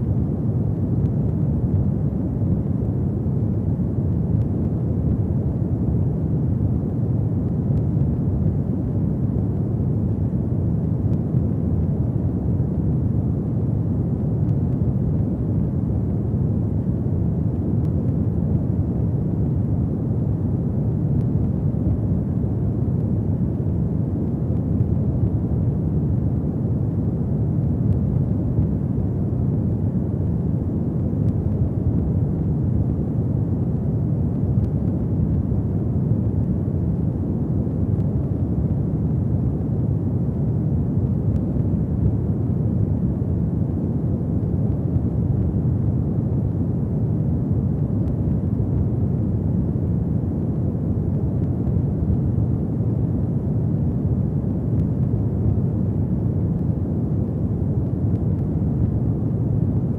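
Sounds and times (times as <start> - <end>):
fire burning low rumble: 0.0 - 59.9.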